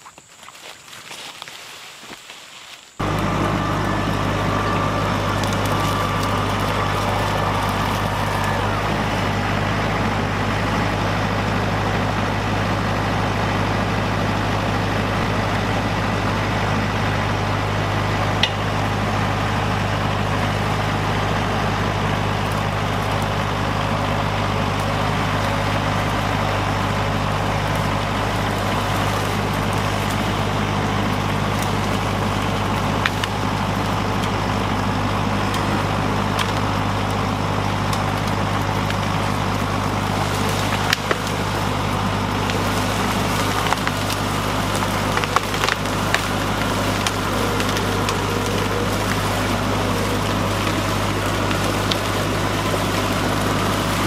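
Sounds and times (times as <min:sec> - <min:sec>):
tractor diesel engine running: 0:02.9 - 0:54.0.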